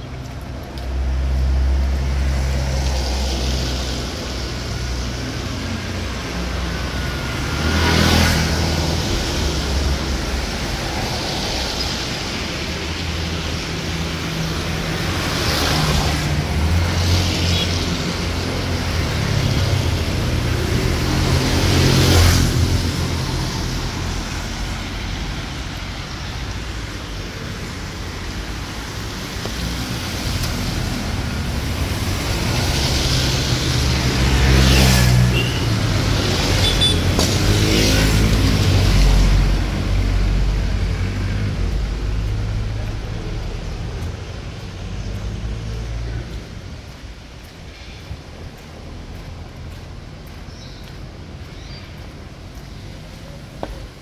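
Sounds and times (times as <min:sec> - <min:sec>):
cars and scooters passing: 0:00.0 - 0:54.0
low traffic rumble: 0:00.0 - 0:54.0
tyres hissing on wet road: 0:00.1 - 0:54.0.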